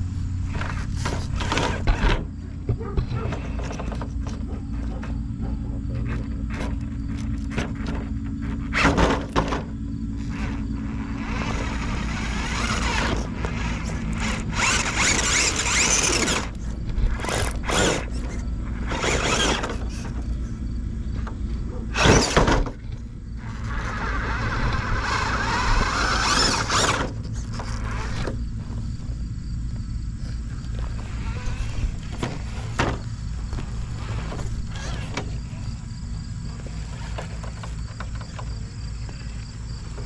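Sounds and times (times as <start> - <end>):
electric motor and gears whining: 0.0 - 40.0
tyres scrabbling on loose ground: 0.0 - 40.0.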